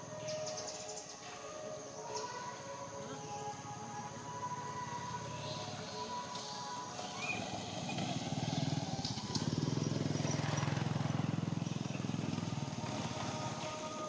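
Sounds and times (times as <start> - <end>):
small vehicle engine passing: 0.0 - 14.0.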